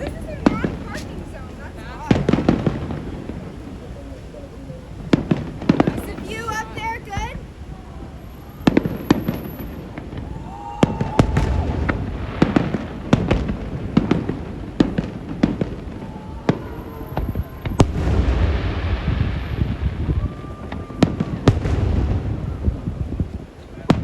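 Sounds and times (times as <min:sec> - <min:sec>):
crackling hiss of fireworks: 0:00.0 - 0:24.0
deep rumbling booms: 0:00.0 - 0:24.0
fireworks bangs and cracks: 0:00.0 - 0:24.0.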